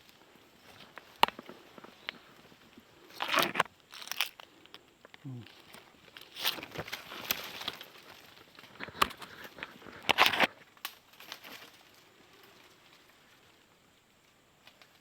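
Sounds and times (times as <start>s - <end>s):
crackling and rustling: 0.0s - 15.0s.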